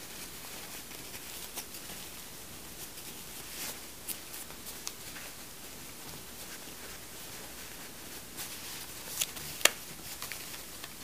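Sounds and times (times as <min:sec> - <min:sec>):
diapers rustling and crinkling: 0:00.0 - 0:11.0
steady low hiss: 0:00.0 - 0:11.0.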